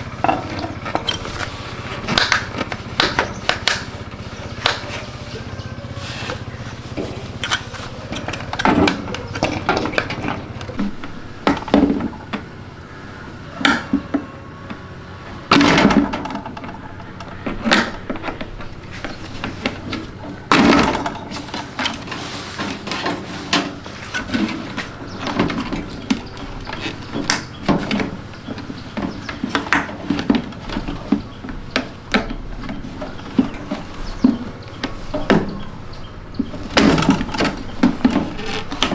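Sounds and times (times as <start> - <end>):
hard parts clicking and knocking: 0.0 - 38.9.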